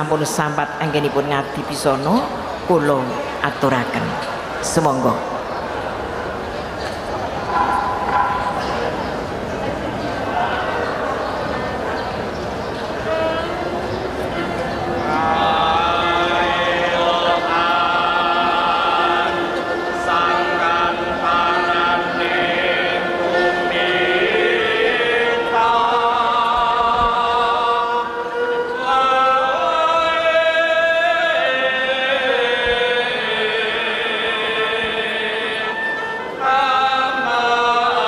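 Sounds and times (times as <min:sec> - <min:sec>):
chorus singing a slow chant: 0:00.0 - 0:38.0.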